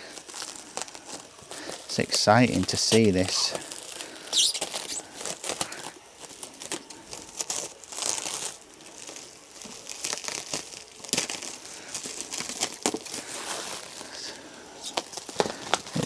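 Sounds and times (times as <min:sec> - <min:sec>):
packing material crinkling and tearing: 0:00.0 - 0:16.0.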